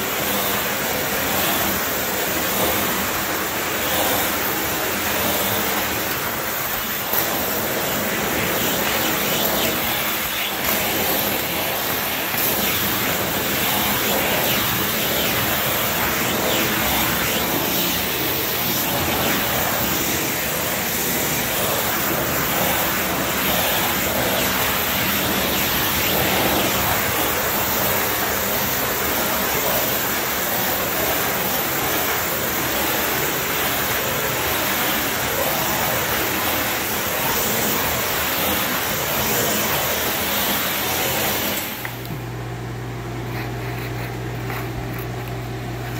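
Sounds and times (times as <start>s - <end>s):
suction roar: 0.0s - 42.0s
extraction wand spraying water: 0.0s - 42.1s.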